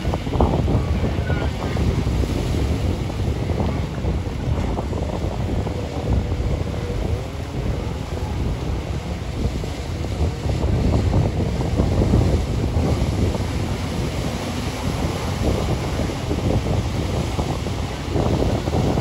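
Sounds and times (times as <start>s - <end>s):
jet ski engine: 0.0s - 19.0s
surf: 0.0s - 19.0s
wind buffeting microphone: 0.0s - 19.0s.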